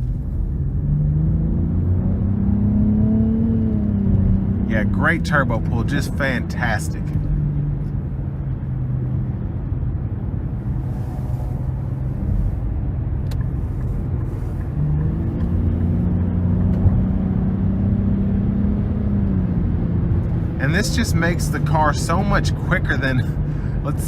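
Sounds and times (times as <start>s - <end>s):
car engine running: 0.0s - 24.0s
road rumble: 0.0s - 24.0s.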